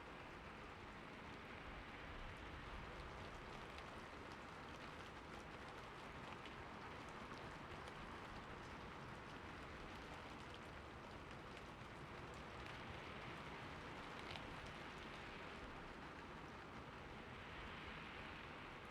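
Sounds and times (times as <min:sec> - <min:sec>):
raindrops ticking on a surface: 0:00.0 - 0:18.9.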